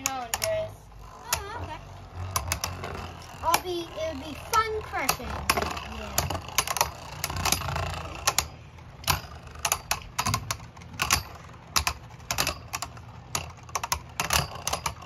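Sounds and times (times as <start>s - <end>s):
low steady hum: 0.0s - 15.0s
spinning tops clacking: 0.0s - 15.0s.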